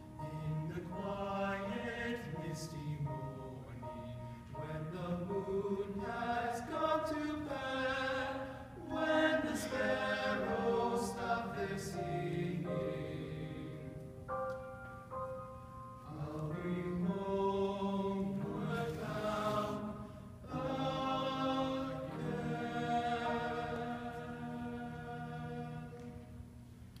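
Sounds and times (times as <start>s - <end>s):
choir singing sustained chords: 0.0s - 26.8s.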